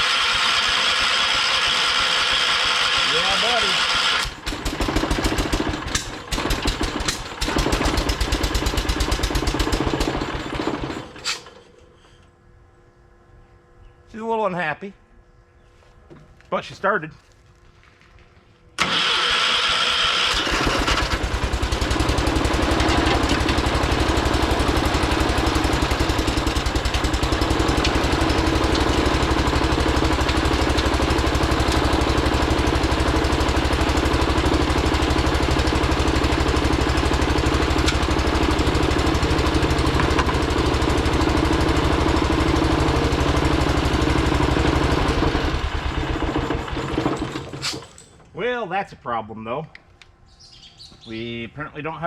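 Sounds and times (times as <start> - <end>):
garden tractor engine running: 0.0 - 11.9, 18.8 - 48.6.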